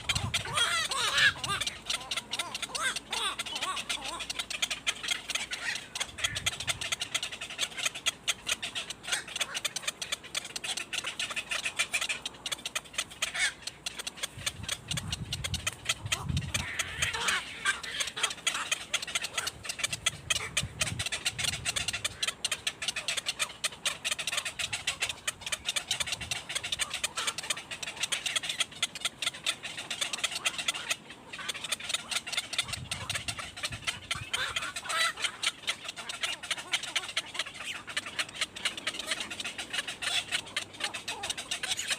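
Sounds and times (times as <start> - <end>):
baby birds cheeping: 0.0 - 41.9.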